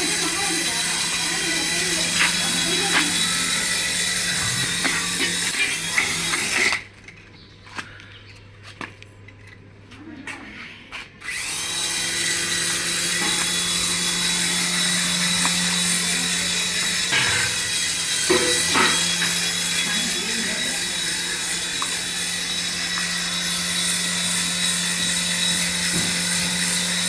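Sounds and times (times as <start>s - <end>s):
small electric motor whirring: 0.0s - 6.9s, 11.2s - 27.0s.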